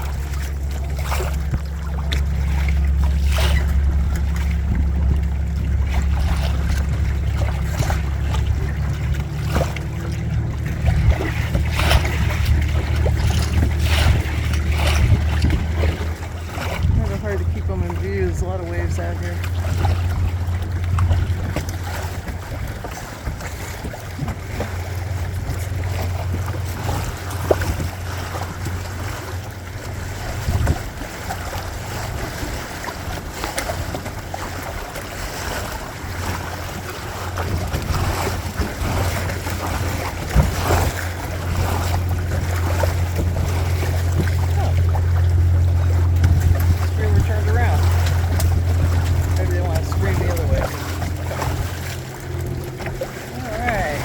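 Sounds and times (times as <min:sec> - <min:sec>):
water rushing along boat hull: 0:00.0 - 0:54.0
water splash: 0:00.0 - 0:54.0
wind rumbling on microphone: 0:00.0 - 0:54.0.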